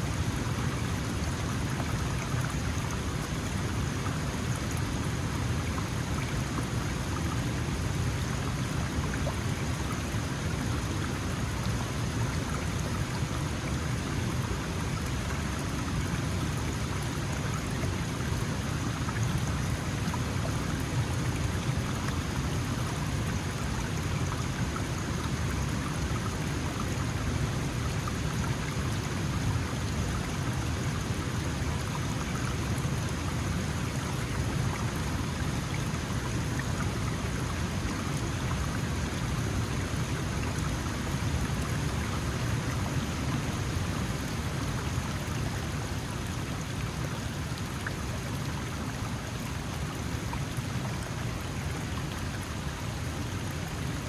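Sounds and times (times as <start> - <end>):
mountain stream babbling: 0.0 - 54.0.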